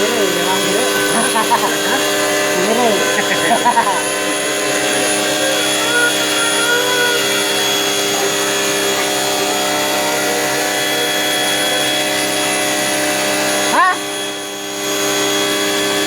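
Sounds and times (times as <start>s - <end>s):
drain-cleaning machine humming: 0.0s - 16.0s.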